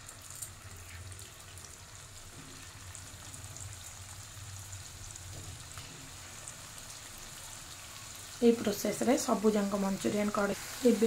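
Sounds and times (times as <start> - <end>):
deep-frying sizzle in oil: 0.0 - 11.0.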